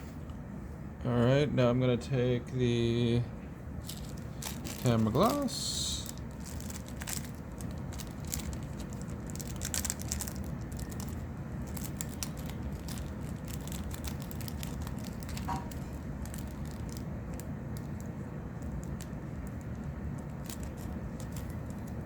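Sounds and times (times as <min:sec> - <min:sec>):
steady low hum: 0:00.0 - 0:22.0
small clicks and crinkles: 0:03.8 - 0:22.0.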